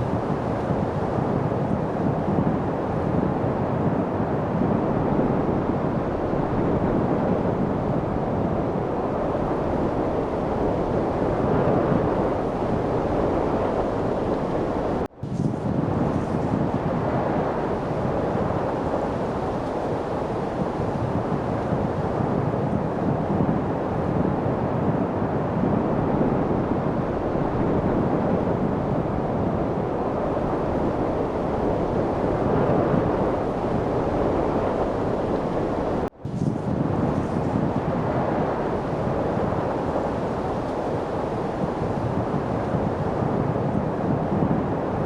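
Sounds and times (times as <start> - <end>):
wind rushing: 0.0 - 45.0.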